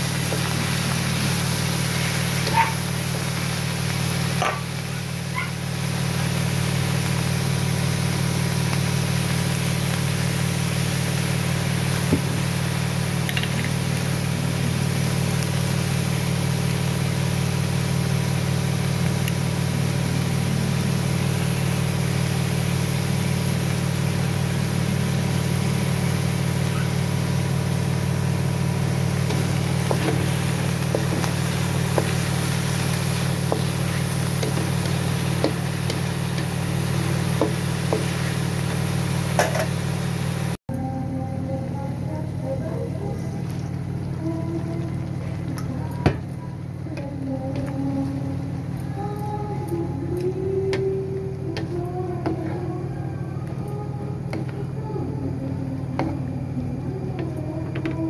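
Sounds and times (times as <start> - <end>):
frying hiss: 0.0 - 40.6, 41.4 - 58.0
low mechanical hum: 0.0 - 58.0.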